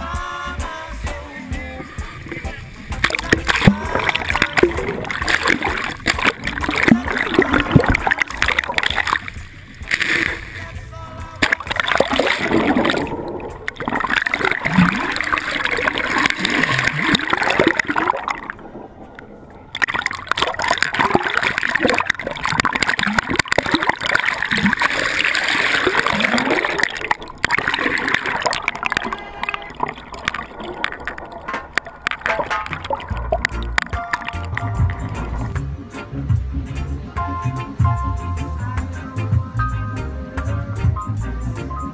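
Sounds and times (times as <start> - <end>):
sea water splashing and gurgling: 1.9 - 35.6.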